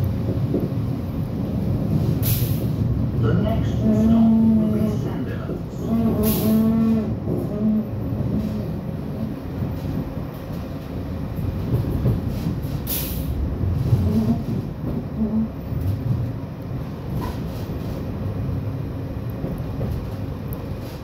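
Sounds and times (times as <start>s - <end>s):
tram rumbling along track: 0.0s - 21.0s
tram whine: 0.0s - 21.0s.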